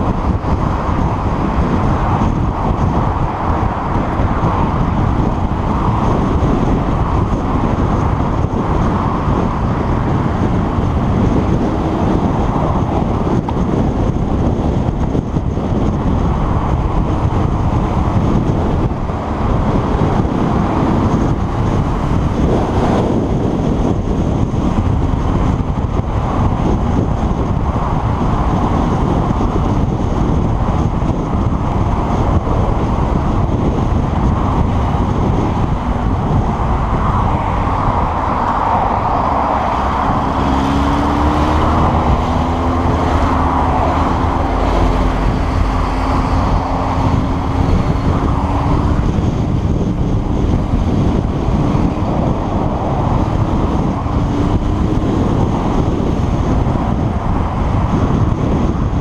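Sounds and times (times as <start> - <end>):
humming engine note: 0.0 - 59.0
motorcycle engine running: 0.0 - 59.0
wind rush: 0.0 - 59.0.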